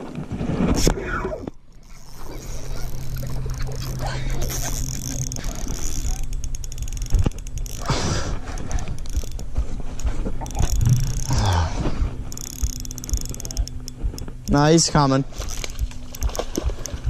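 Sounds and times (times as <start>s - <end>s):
fishing reel clicking: 1.6s - 17.0s.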